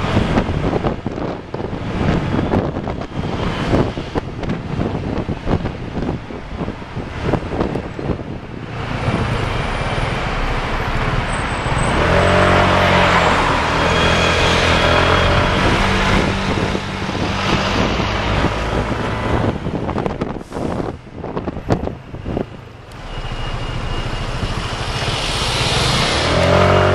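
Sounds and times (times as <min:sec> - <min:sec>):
wind buffeting microphone: 0:00.0 - 0:23.0
diesel bus engine rumble: 0:00.0 - 0:26.9
road traffic: 0:00.0 - 0:26.9.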